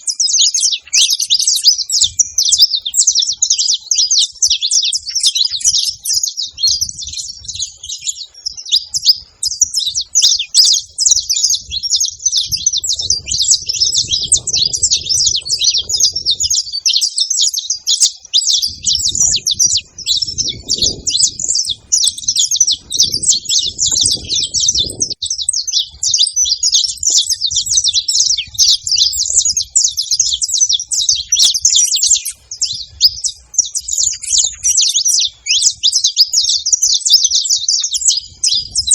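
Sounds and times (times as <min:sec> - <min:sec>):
finches chirping: 0:00.0 - 0:38.9.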